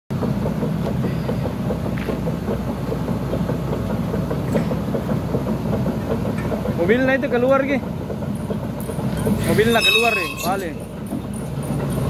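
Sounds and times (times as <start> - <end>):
excavator diesel engine idling: 0.1 - 12.0.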